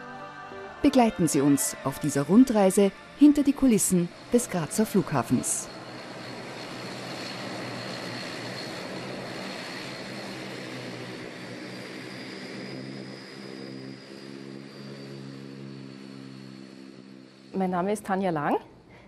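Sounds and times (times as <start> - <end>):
low hum: 0.6 - 19.0
jet engines roaring: 0.8 - 18.2.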